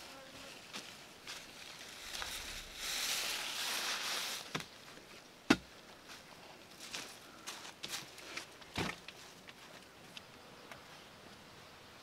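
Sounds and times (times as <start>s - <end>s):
rustling of grass stalks: 0.0s - 9.9s.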